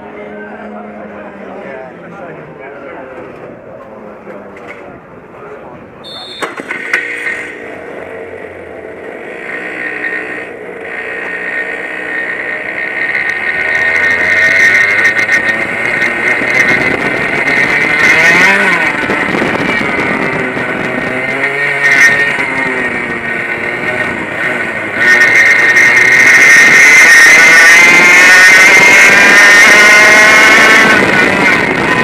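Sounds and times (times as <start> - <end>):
kart engine revving: 6.2 - 32.0.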